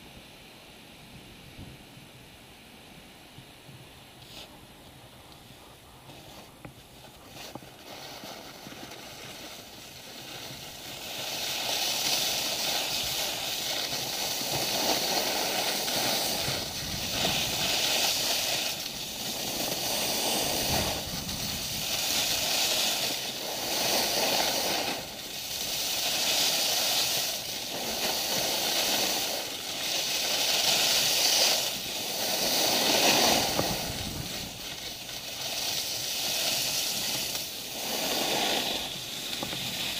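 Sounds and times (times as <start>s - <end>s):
skis scraping over snow: 4.1s - 39.9s.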